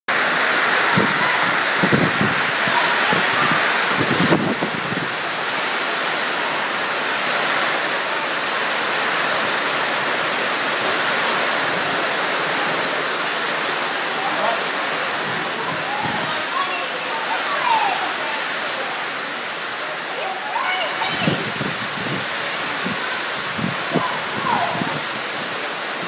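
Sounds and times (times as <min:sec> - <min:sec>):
heavy rain hissing: 0:00.1 - 0:26.0.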